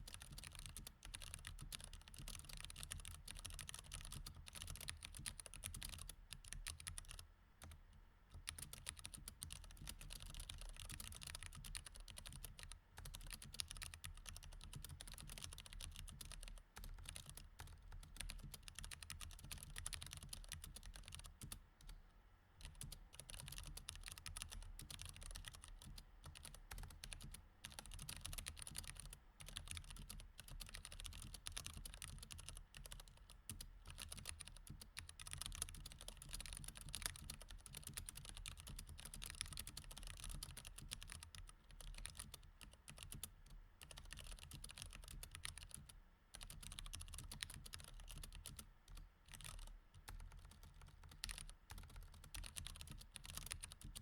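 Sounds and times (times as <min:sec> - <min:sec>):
mechanical keyboard typing: 0:00.0 - 0:07.8, 0:08.4 - 0:21.6, 0:22.6 - 0:54.0.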